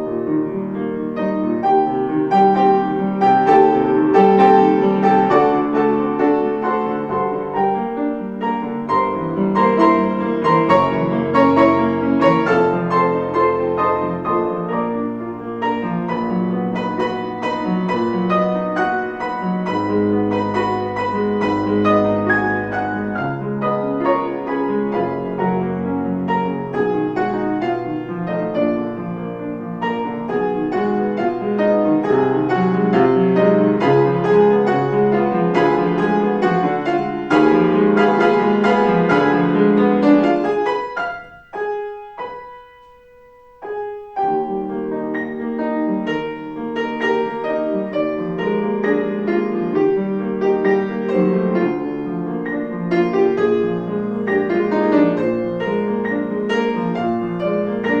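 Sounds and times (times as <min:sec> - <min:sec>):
classical piano piece: 0:00.0 - 0:58.0.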